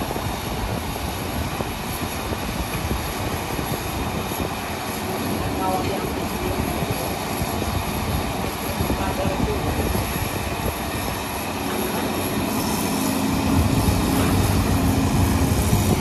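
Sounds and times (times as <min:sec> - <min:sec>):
construction machinery diesel engines: 0:00.0 - 0:16.0.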